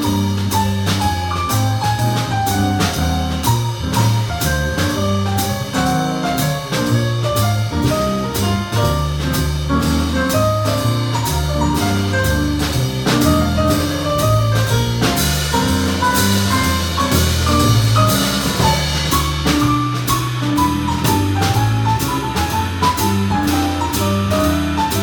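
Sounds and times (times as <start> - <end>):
bass line: 0.0 - 25.0
drum kit cymbals: 0.0 - 25.0.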